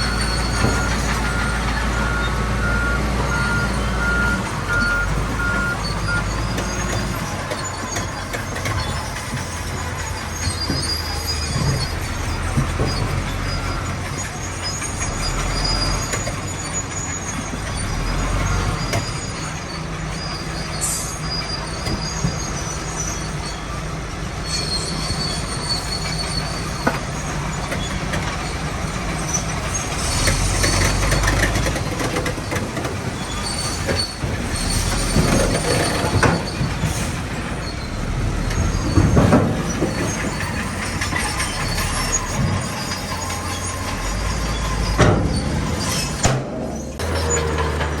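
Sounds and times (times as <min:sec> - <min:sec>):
diesel engine running: 0:00.0 - 0:48.0
steel tracks squealing and clanking: 0:00.0 - 0:48.0.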